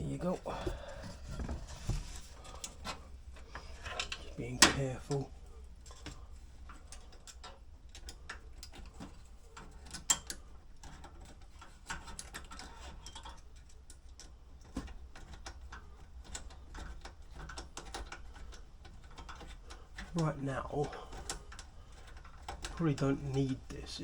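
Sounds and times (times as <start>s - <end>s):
small parts clicking and tapping: 1.4s - 24.0s.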